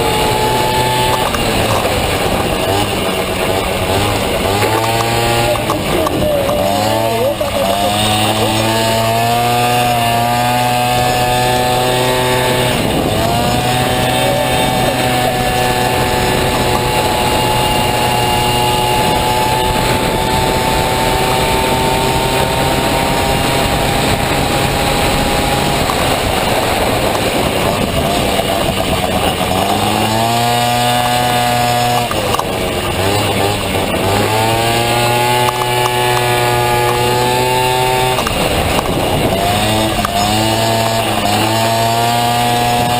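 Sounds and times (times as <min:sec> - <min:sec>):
scooter engine revving high: 0:00.0 - 0:42.9.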